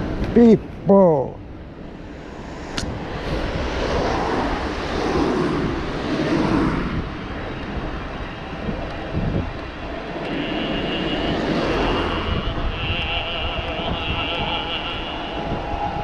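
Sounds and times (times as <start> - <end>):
cars passing: 0.0 - 16.0
wind on microphone: 1.4 - 16.0.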